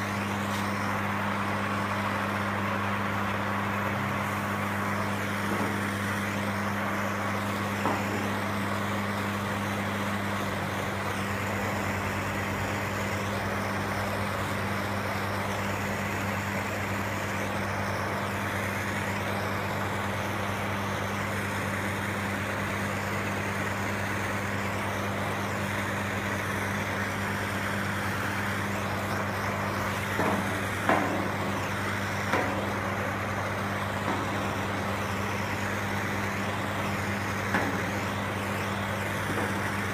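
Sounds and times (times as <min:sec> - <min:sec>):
machine hum with hiss: 0:00.0 - 0:39.9.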